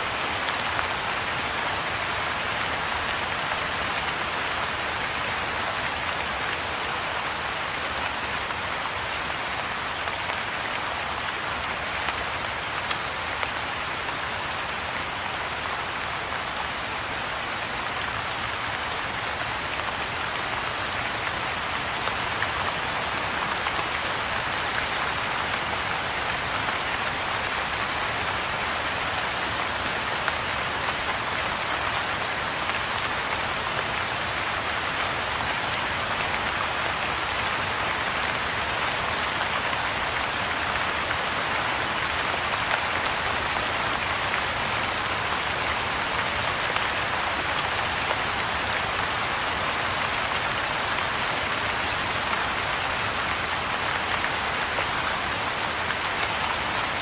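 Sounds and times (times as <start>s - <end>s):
rain falling on a pond: 0.0s - 57.0s.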